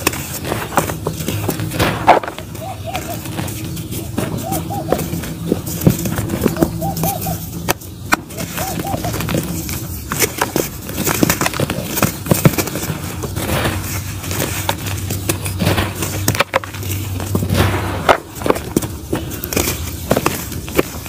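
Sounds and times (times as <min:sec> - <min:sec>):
hands crumbling dry mud: 0:00.0 - 0:21.0.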